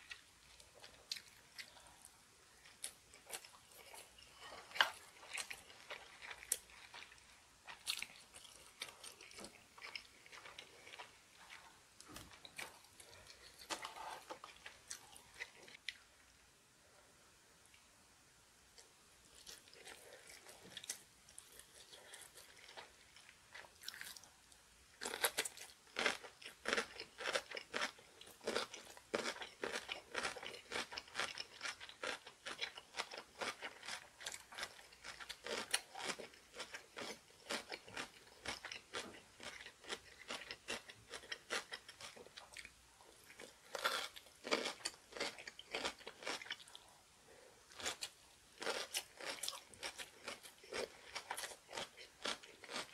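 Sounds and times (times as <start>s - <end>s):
soft chewing: 0.0s - 16.4s, 18.7s - 52.9s
loud crunching of food: 2.7s - 15.8s, 19.3s - 24.3s, 25.0s - 46.9s, 47.7s - 52.9s.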